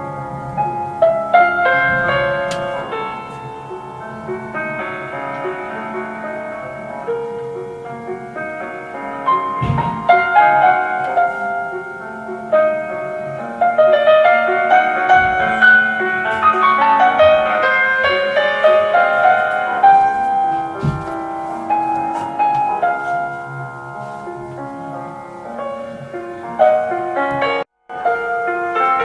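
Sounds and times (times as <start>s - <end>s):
solo piano classical piece: 0.0s - 29.0s.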